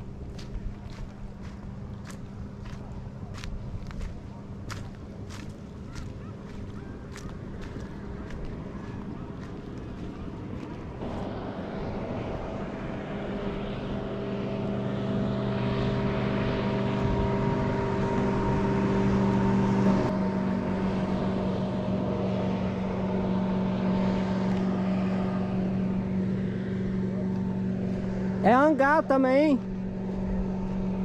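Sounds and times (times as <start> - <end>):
motorboat engine running: 0.0 - 31.0.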